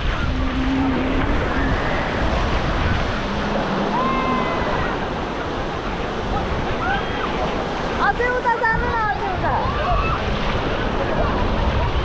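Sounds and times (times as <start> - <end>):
ocean surf washing: 0.0 - 12.0
wind on microphone: 0.0 - 12.0.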